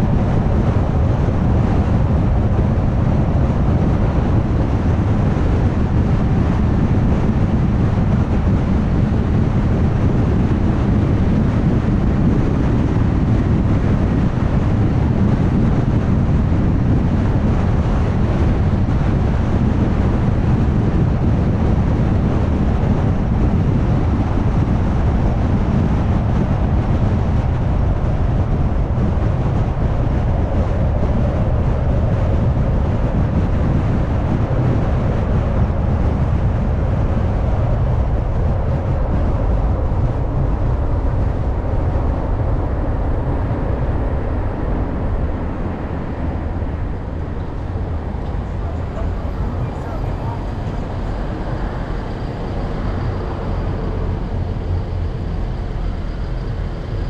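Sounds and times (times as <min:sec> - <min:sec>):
car road and engine noise: 0:00.0 - 0:57.0
wind rush: 0:00.0 - 0:57.0.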